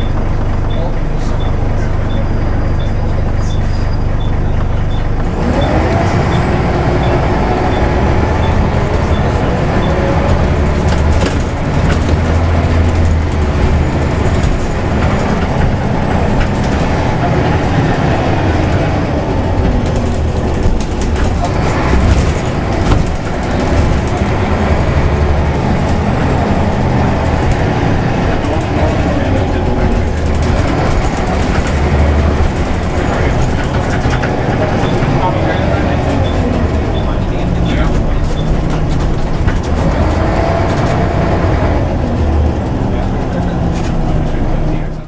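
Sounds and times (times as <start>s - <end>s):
bus engine running: 0.0s - 45.0s
body rattles and clicks: 7.7s - 44.6s.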